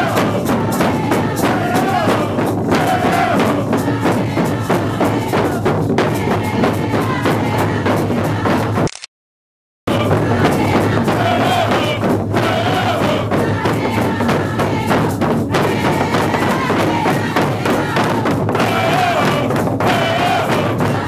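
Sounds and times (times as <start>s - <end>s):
frame drums beating: 0.0s - 8.8s, 9.9s - 21.0s
group of voices chanting: 0.0s - 8.8s, 9.9s - 21.0s.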